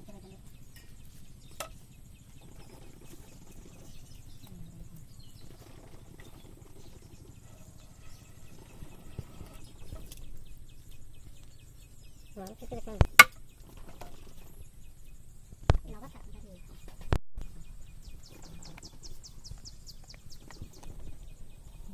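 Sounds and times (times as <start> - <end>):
steady low background noise: 0.0 - 21.9.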